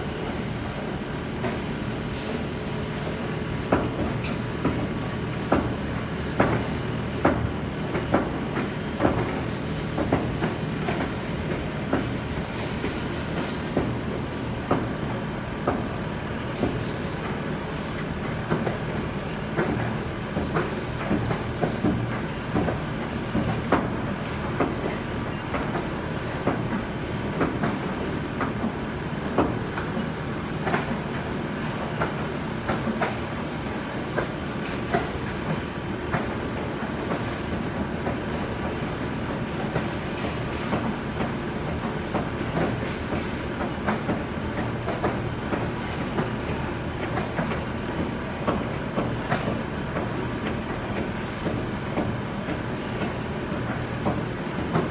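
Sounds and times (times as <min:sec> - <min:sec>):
motor and fans humming: 0:00.0 - 0:54.9.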